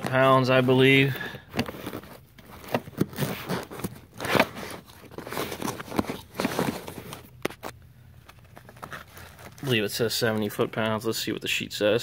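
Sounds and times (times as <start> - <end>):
crinkling handling noise: 0.0 - 11.2.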